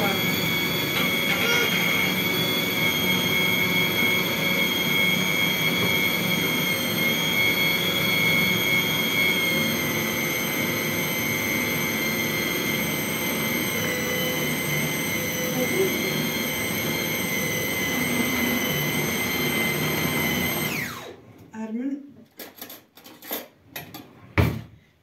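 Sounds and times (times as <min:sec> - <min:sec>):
electric food chopper grinding: 0:00.0 - 0:21.2.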